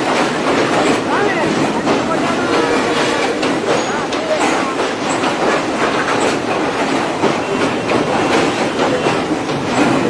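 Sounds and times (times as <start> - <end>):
passenger train running: 0.0 - 10.0
wheels clattering over track: 0.0 - 10.0.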